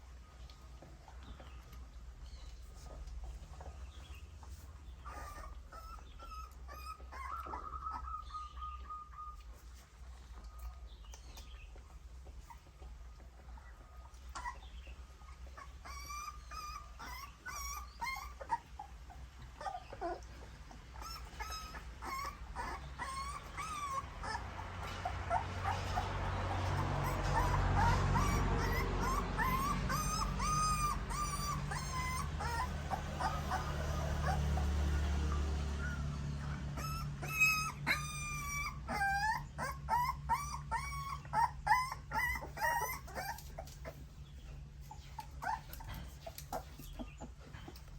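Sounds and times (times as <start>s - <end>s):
puppies squealing: 2.4s - 9.9s, 11.4s - 47.9s.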